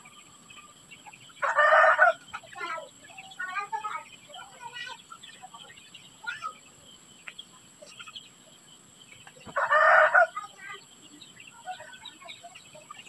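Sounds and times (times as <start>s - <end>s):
chicken calling: 0.0s - 8.5s, 9.1s - 13.0s
faint bird chirps: 0.0s - 13.0s.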